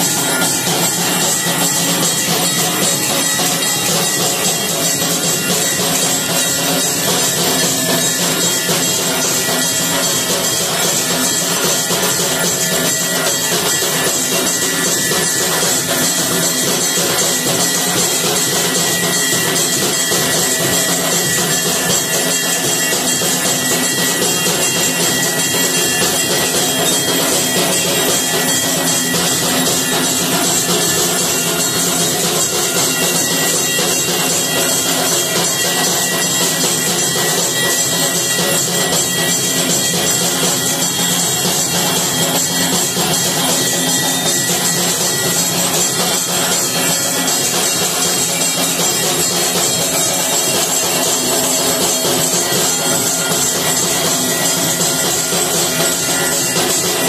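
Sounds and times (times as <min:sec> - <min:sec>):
barrel drum beaten rapidly: 0:00.0 - 0:57.0
steady high ringing: 0:00.0 - 0:57.0.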